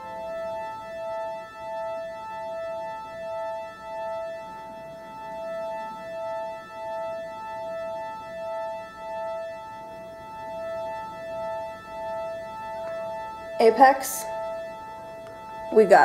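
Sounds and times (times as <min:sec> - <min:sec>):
electronic two-note tone: 0:00.0 - 0:16.0.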